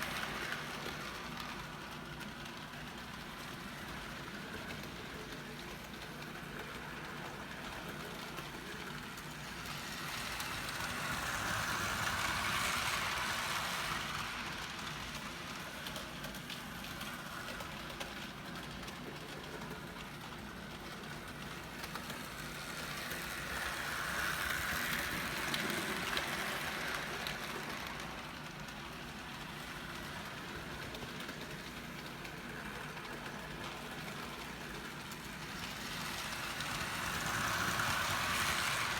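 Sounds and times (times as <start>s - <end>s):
model train motor whirring: 0.0s - 18.1s, 21.1s - 38.9s.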